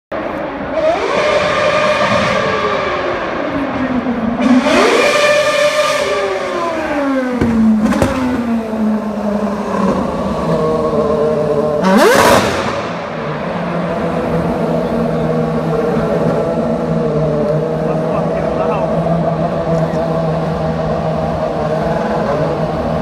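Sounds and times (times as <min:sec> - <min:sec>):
race car engine revving: 0:00.2 - 0:23.0.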